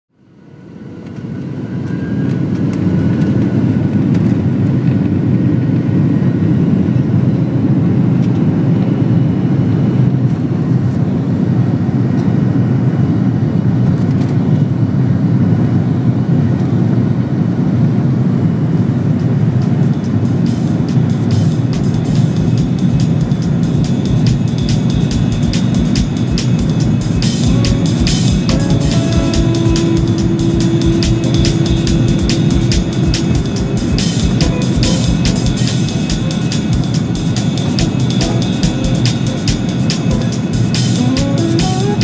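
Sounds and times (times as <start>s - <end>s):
faint jet engine whine: 0.1s - 42.0s
low engine rumble: 0.8s - 42.0s.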